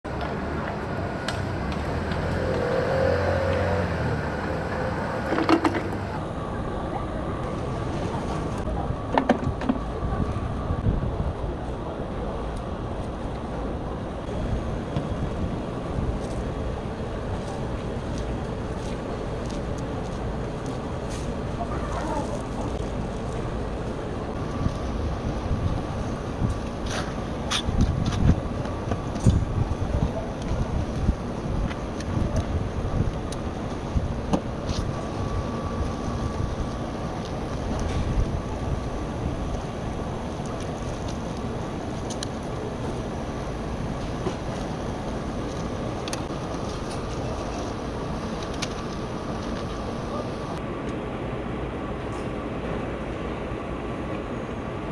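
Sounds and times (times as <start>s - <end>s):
low rumble and hiss: 0.1s - 54.9s.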